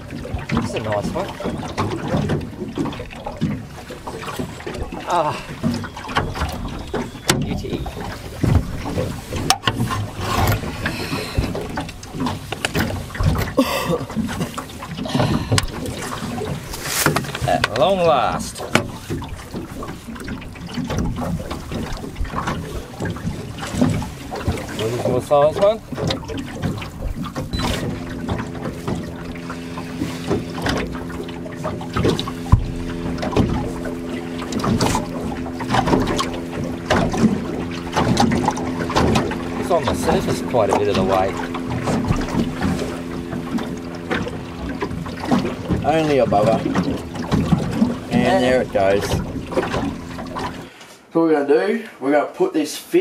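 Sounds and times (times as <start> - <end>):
water slapping boat hull: 0.0 - 53.0.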